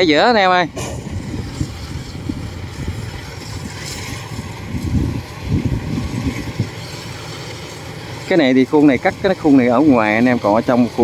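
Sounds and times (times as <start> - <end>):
combine harvester running: 0.0 - 11.0
wind buffeting microphone: 0.0 - 11.0.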